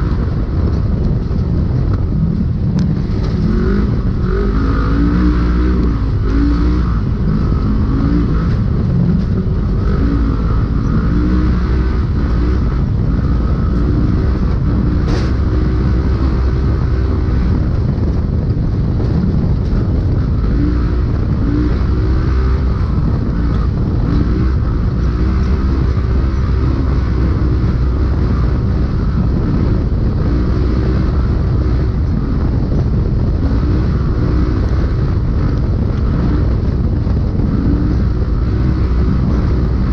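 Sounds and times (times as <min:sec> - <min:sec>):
chassis rumbling over terrain: 0:00.0 - 0:39.9
engine revving: 0:00.0 - 0:39.9.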